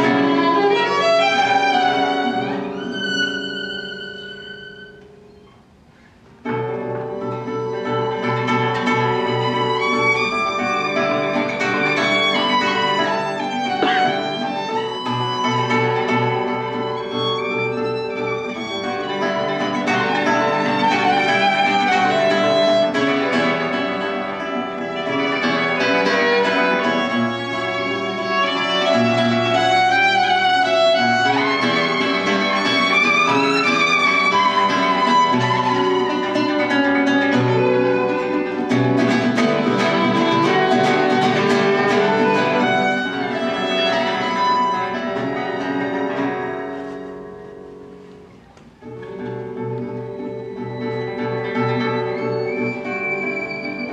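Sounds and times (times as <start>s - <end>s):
bowed violin melody: 0.0s - 5.5s, 7.0s - 46.8s, 49.2s - 53.9s
plucked classical guitar: 0.0s - 53.9s.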